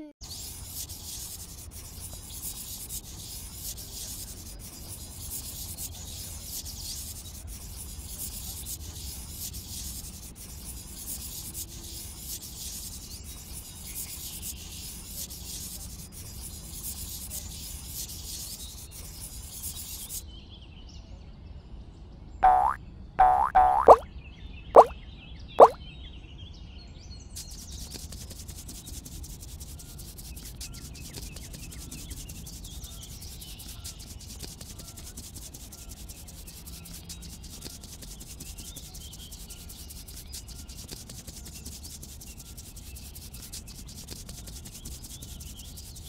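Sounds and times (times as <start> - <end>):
marker scratching on paper: 0.2 - 20.2, 27.4 - 46.0.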